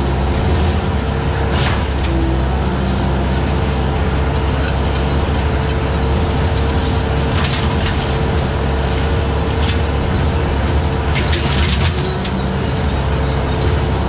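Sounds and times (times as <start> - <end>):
engine running under load: 0.0 - 14.0.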